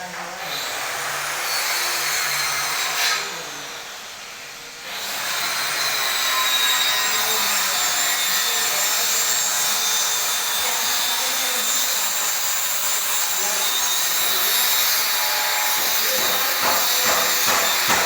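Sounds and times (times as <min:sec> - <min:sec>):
power tool cutting wood: 0:00.0 - 0:18.0.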